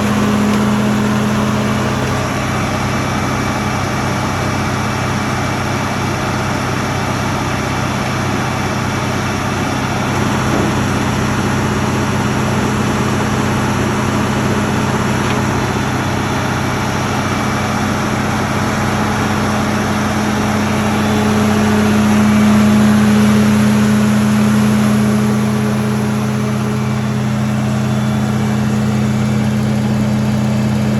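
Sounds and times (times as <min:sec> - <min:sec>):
large diesel engine running: 0:00.0 - 0:30.9.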